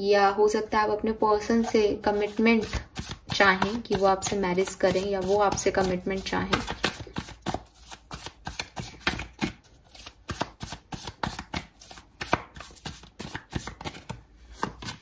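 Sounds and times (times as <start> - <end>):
cards being shuffled: 2.2 - 15.0.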